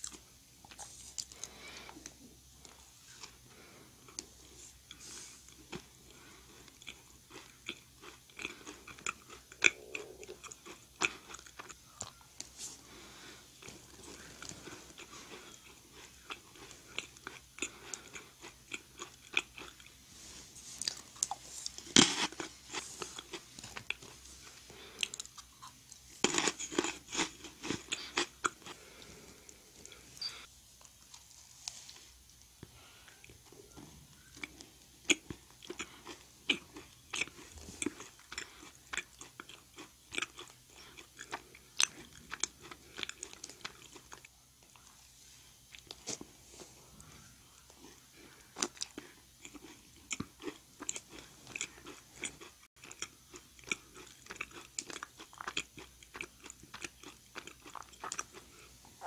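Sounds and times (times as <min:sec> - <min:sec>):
cookie crunching while chewed: 0:00.0 - 0:59.0.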